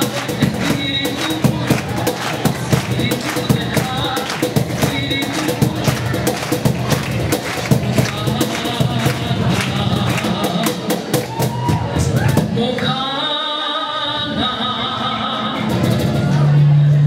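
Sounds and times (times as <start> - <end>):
cajon drumming by hand: 0.0 - 13.0, 14.3 - 17.0.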